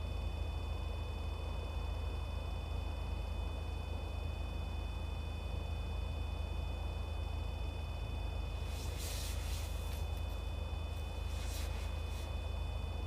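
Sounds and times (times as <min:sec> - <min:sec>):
constant low hum: 0:00.0 - 0:13.0
high-pitched whine: 0:00.0 - 0:13.0.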